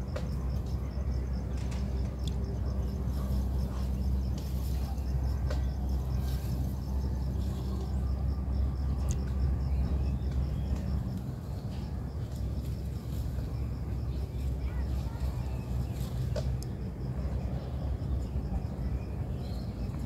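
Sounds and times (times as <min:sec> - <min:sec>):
insect chirping: 0:00.0 - 0:20.0
steady low rumble: 0:00.0 - 0:20.0.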